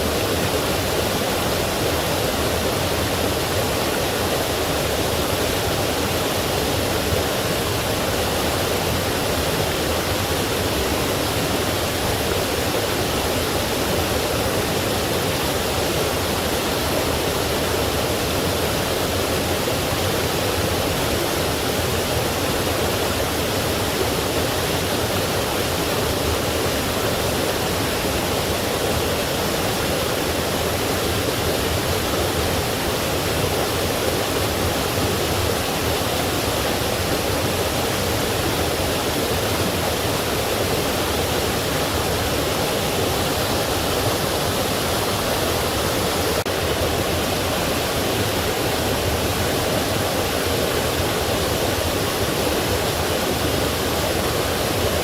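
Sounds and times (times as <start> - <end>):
rush of running water: 0.0 - 55.0.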